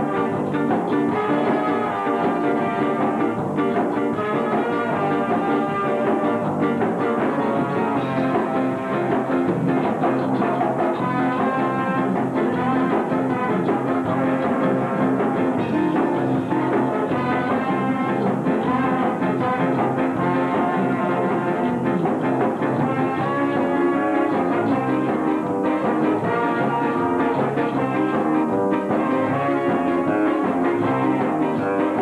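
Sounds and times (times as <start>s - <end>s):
horn section: 0.0s - 32.0s
ska band playing live: 0.0s - 32.0s.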